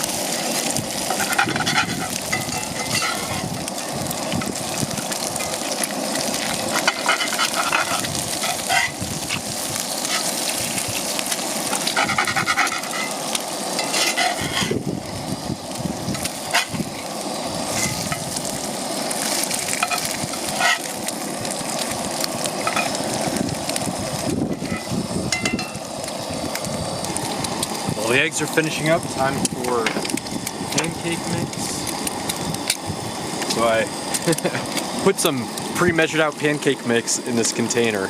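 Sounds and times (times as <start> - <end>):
eggs sizzling in a pan: 0.0 - 38.0.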